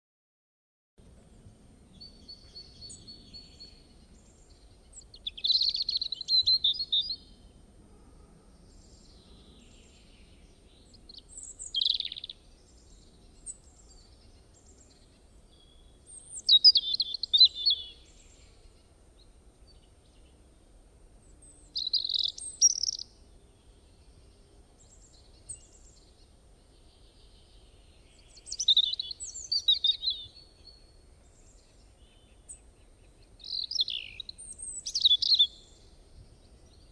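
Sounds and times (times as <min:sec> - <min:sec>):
songbird chirps and trills: 0:01.0 - 0:07.7, 0:08.4 - 0:36.9.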